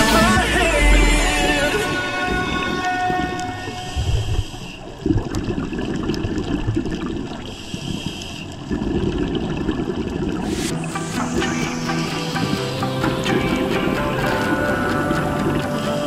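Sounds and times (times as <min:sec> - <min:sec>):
muffled underwater water rushing: 0:00.0 - 0:16.0.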